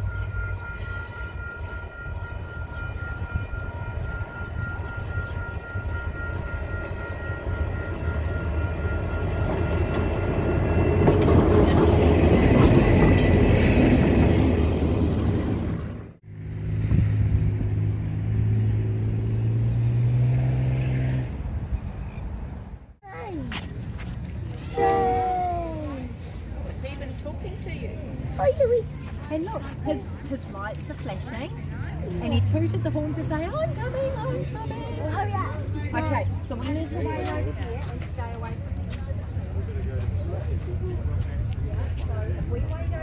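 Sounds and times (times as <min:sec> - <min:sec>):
diesel locomotive engine: 0:00.0 - 0:43.0.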